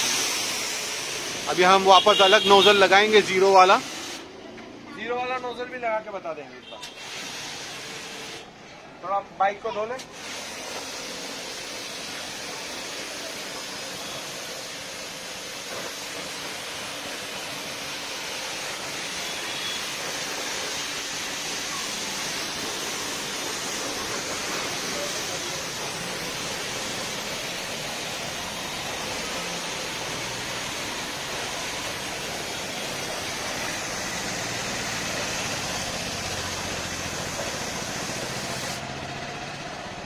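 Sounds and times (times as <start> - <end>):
pressure washer water jet spraying: 0.0 - 4.4, 6.6 - 8.6, 9.8 - 40.0.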